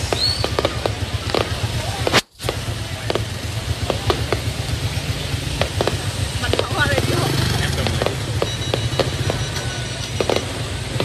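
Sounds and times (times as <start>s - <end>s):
fireworks popping and crackling: 0.0s - 11.0s
low steady rumble: 0.0s - 11.0s.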